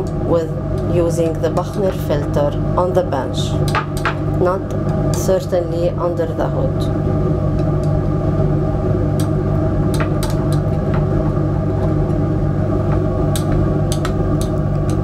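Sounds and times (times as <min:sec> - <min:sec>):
exhaust fan humming: 0:00.0 - 0:15.0.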